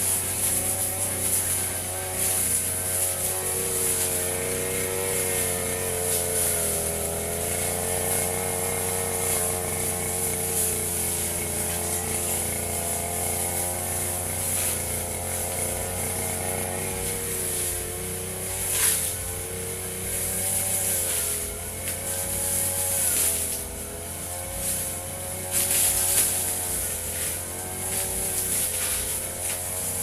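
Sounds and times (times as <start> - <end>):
brush cutter cutting grass: 0.0 - 30.0.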